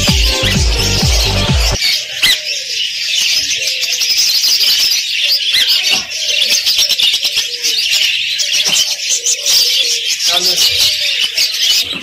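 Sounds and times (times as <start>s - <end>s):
many small birds chirping: 0.0s - 12.0s.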